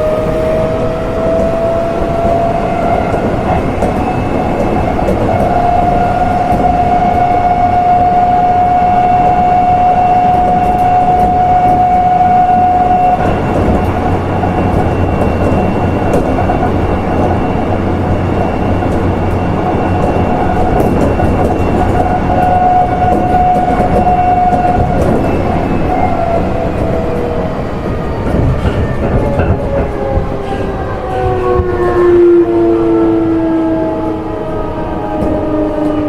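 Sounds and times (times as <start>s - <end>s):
electric train inverter whine: 0.0s - 36.0s
wheel and rail noise: 0.0s - 36.0s.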